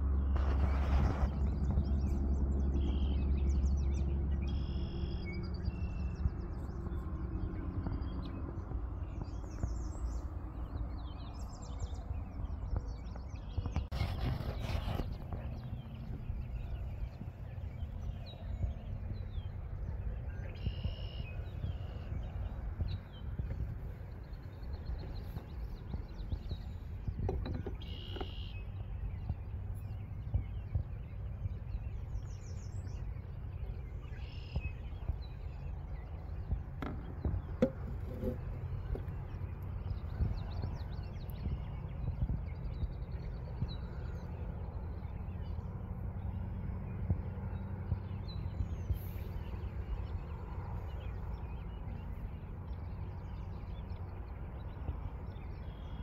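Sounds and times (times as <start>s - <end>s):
birds chirping: 0.0s - 56.0s
wind and water rumble: 0.0s - 56.0s.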